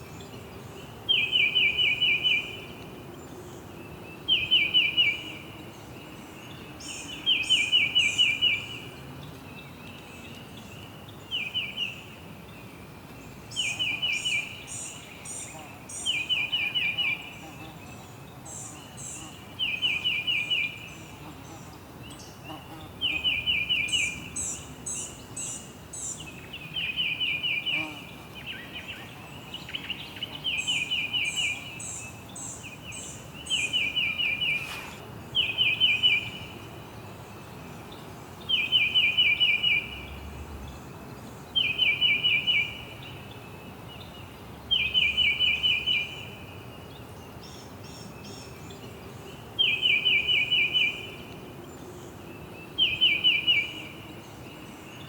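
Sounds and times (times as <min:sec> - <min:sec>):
background hiss: 0:00.0 - 0:55.0
songbirds singing: 0:00.0 - 0:55.0.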